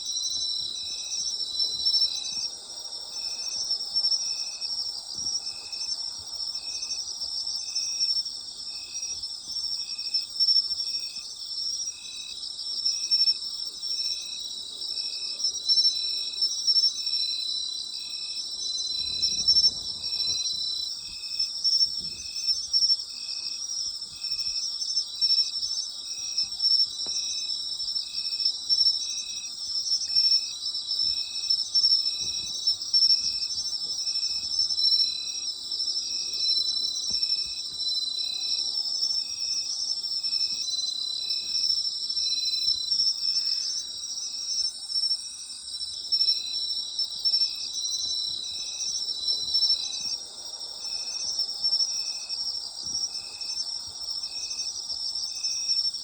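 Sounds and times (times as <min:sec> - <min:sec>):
night insects chorus: 0:00.0 - 0:56.0
rhythmic insect chirp: 0:00.0 - 0:56.0.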